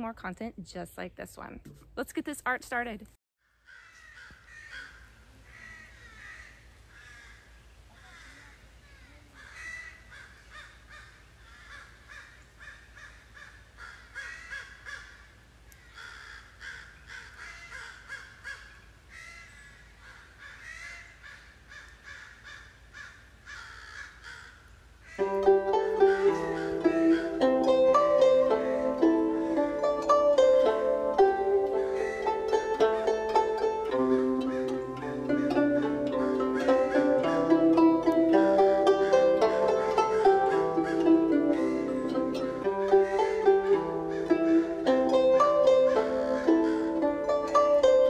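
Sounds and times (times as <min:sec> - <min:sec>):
crows cawing: 0:03.4 - 0:28.2, 0:31.6 - 0:37.8, 0:38.8 - 0:47.5.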